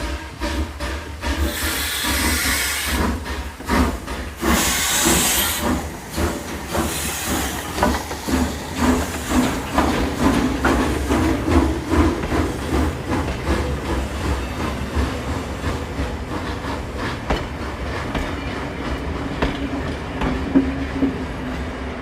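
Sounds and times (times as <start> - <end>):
steam hissing: 0.0 - 19.3
steam locomotive chuffing: 0.0 - 22.0.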